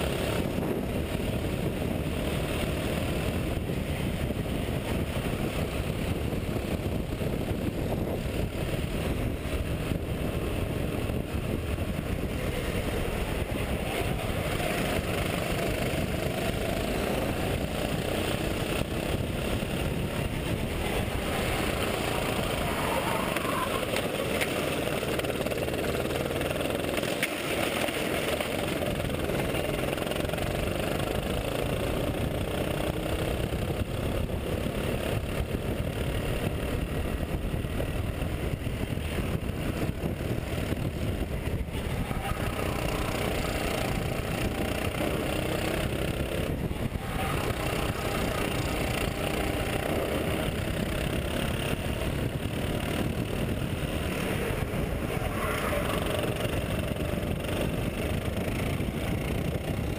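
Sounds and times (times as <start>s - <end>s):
go-kart engine at racing speed: 0.0s - 59.9s.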